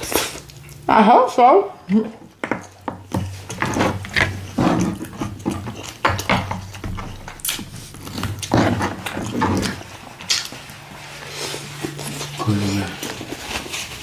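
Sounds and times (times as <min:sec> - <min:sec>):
person chewing food: 0:00.0 - 0:00.9, 0:02.3 - 0:14.0.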